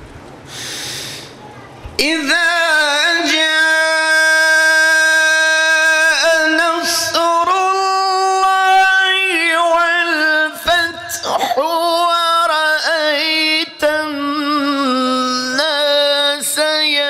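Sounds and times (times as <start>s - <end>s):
man reciting melodically: 2.0s - 17.0s.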